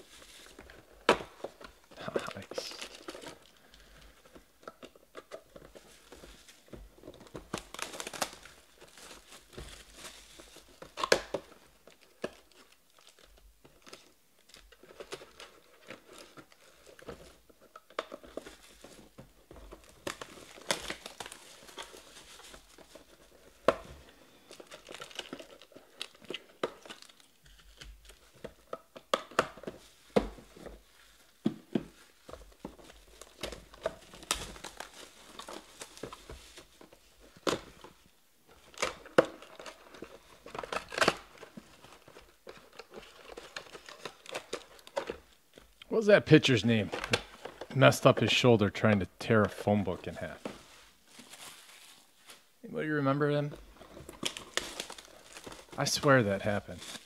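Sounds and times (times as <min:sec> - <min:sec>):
plastic wrapping crinkling: 0:00.0 - 0:57.0.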